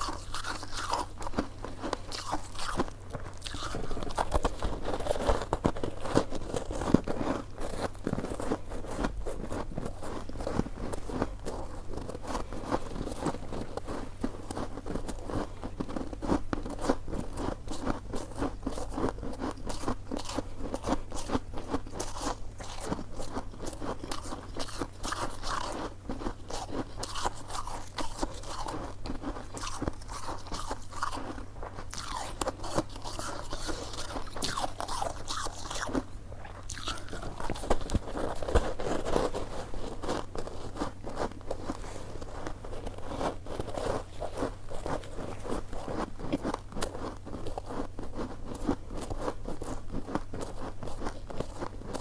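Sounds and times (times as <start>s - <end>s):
close chewing with mouth clicks: 0.0s - 52.0s.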